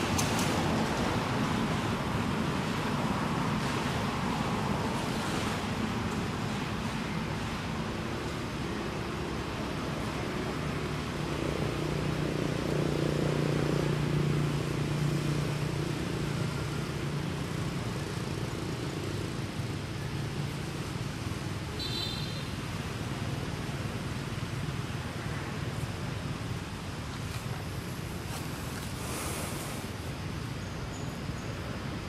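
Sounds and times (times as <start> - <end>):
motor vehicle engine hum: 0.0 - 32.0
steady background hiss: 0.0 - 32.0.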